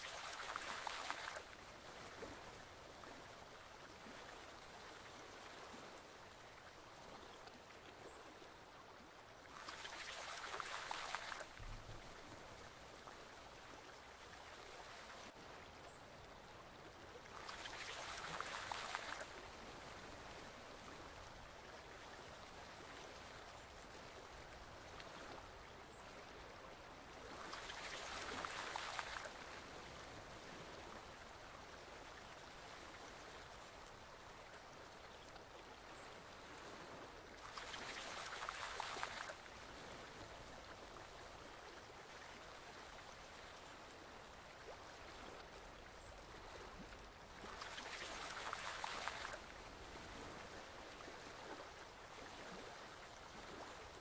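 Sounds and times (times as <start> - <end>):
forest stream flowing: 0.0 - 54.0.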